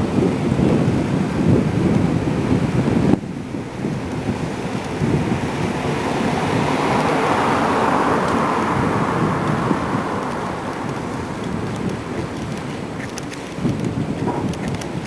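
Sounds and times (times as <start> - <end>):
street traffic noise: 0.0 - 15.0
wind buffeting microphone: 0.0 - 15.0.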